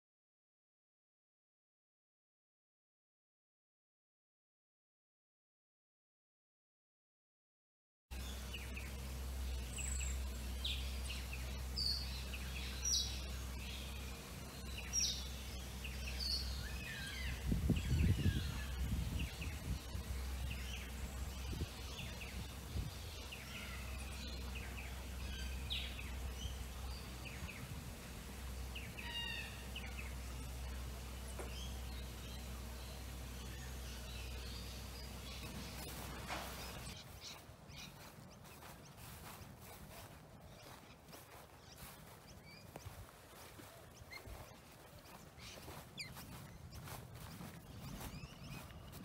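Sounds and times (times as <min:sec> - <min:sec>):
small birds chirping: 0:08.1 - 0:49.0
steady low hum: 0:08.1 - 0:49.0.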